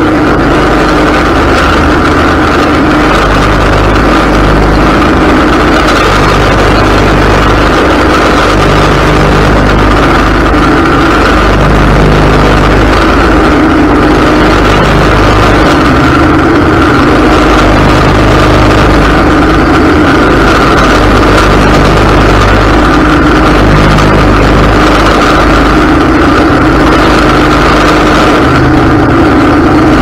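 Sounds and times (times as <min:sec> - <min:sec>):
riding lawn mower mowing grass: 0:00.0 - 0:30.0.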